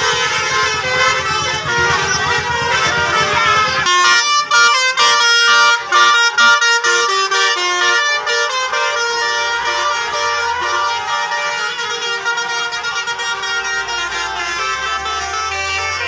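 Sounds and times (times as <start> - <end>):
multi-tone bus horn tune: 0.0 - 16.0.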